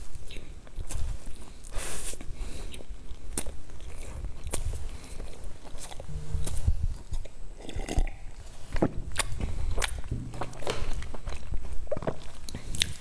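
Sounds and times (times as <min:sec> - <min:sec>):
person chewing pastry: 0:00.0 - 0:13.0.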